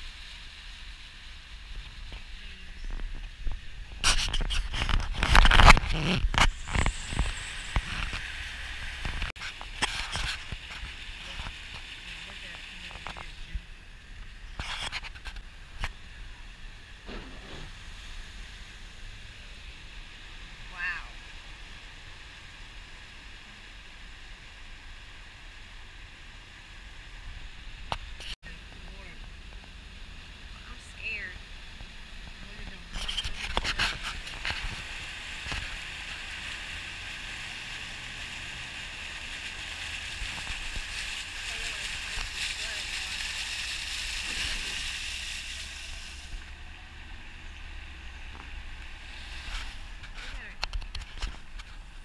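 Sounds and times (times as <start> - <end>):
water sloshing around vehicle: 0.0 - 24.4, 27.5 - 52.0
truck cabin rumble and hiss: 0.0 - 52.0.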